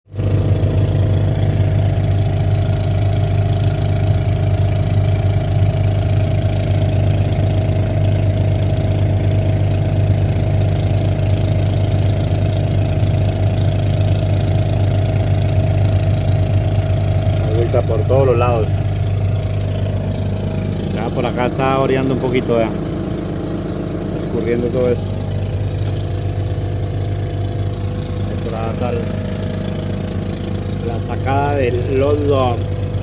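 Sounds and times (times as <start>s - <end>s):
diesel engine humming: 0.1s - 33.0s.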